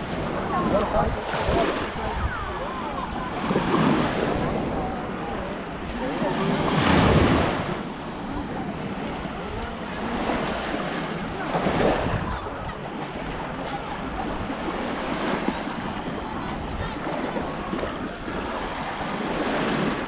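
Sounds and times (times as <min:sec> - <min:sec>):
small waves washing on shore: 0:00.0 - 0:20.0.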